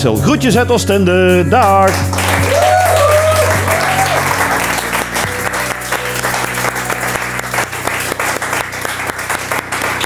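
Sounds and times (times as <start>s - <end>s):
background music with low notes: 0.0s - 10.0s
people applauding: 1.9s - 10.0s.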